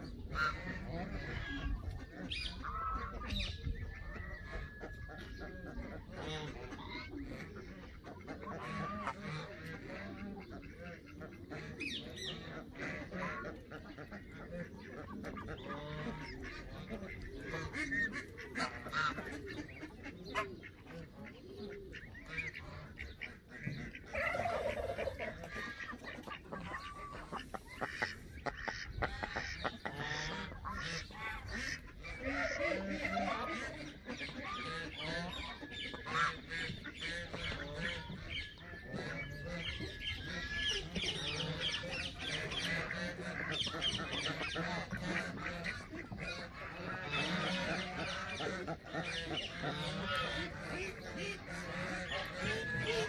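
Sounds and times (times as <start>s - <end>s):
ducks quacking: 0.0s - 53.0s
geese honking: 0.0s - 53.0s.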